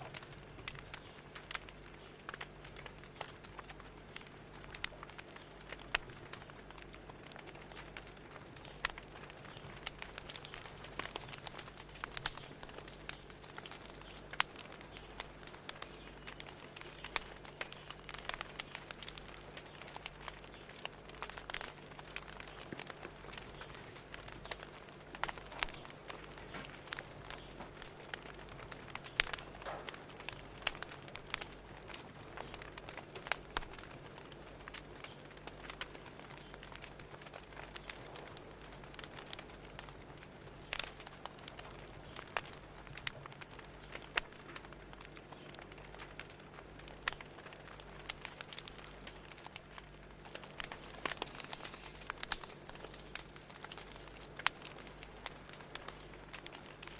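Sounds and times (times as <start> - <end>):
fire crackling: 0.0 - 56.9
soft steady hiss: 0.0 - 56.9.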